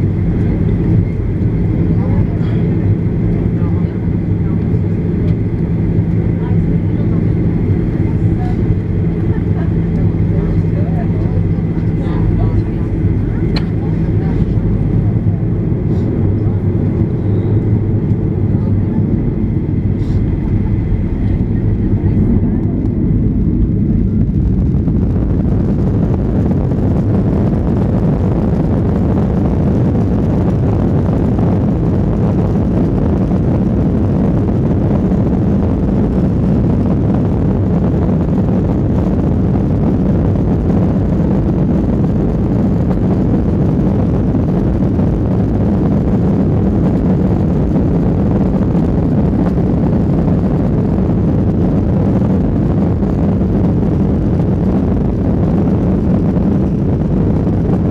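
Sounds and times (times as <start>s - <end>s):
airliner cabin noise: 0.0s - 57.9s.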